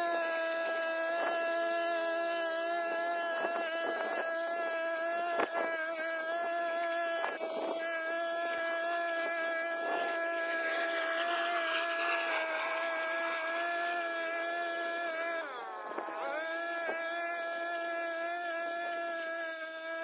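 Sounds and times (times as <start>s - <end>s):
brush cutter engine running: 1.4s - 20.0s.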